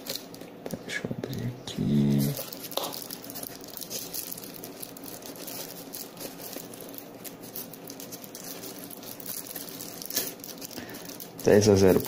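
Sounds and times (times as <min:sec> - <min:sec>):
packaging rustling: 0:00.0 - 0:00.6, 0:02.1 - 0:12.0.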